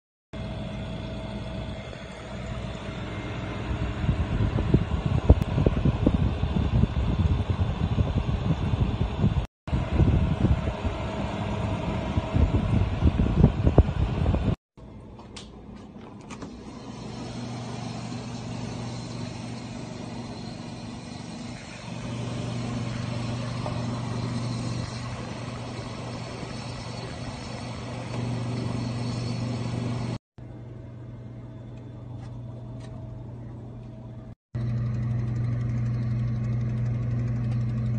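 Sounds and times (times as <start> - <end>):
fan air rumbling: 0.4 - 37.9
refrigerator compressor hum: 0.4 - 37.9.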